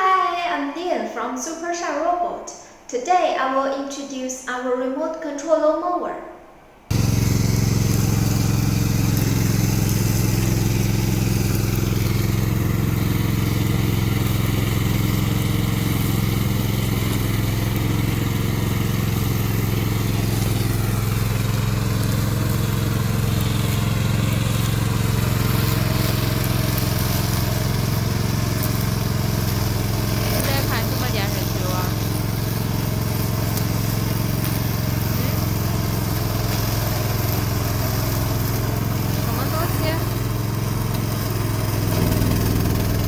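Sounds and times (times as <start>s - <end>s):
lawn mower engine running: 6.9s - 43.0s.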